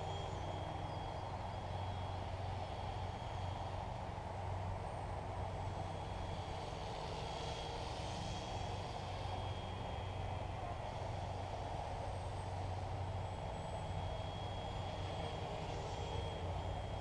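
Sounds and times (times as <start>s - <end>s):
faint high whine: 0.0s - 17.0s
remote-control helicopter rotor hum: 0.0s - 17.0s.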